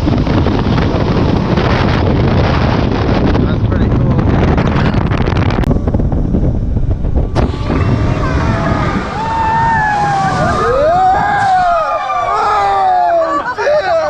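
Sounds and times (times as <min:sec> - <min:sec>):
wind noise on microphone: 0:00.0 - 0:13.5
jet boat engine rumble: 0:00.0 - 0:14.0.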